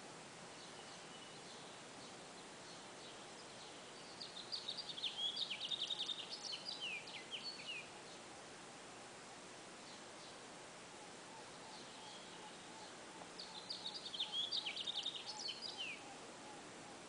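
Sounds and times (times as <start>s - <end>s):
faint background hiss: 0.0s - 17.0s
songbird chirping: 0.0s - 17.0s.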